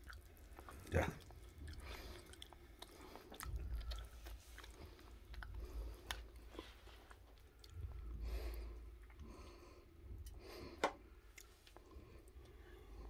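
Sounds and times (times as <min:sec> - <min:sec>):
close chewing: 0:00.0 - 0:10.5, 0:11.1 - 0:13.0.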